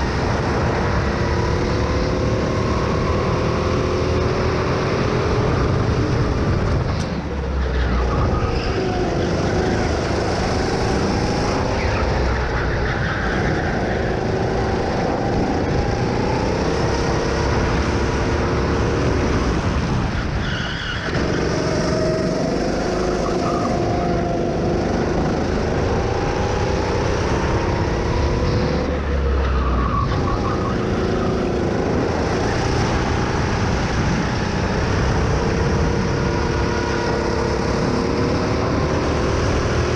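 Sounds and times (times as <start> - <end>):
go-kart engine racing: 0.0 - 39.9
wind rumbling on microphone: 0.0 - 39.9.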